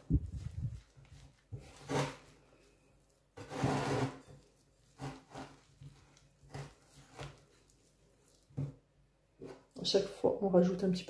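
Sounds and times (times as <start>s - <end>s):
hands kneading dough in a bowl: 0.0s - 11.0s.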